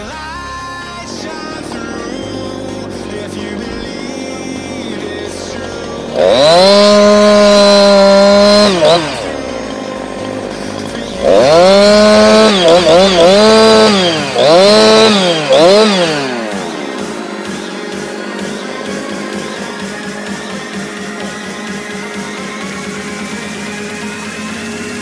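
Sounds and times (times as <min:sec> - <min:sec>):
chainsaw revving and idling: 0:00.0 - 0:25.0.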